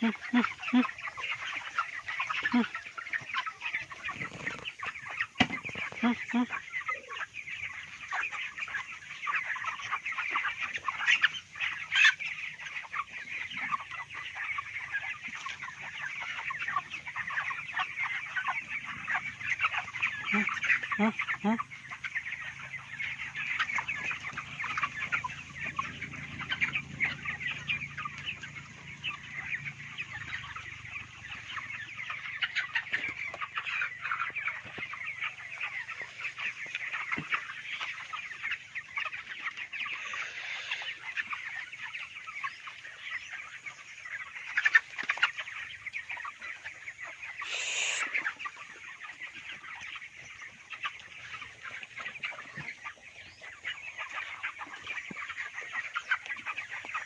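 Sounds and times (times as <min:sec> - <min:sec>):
chickens peeping and clucking: 0:00.0 - 0:57.0.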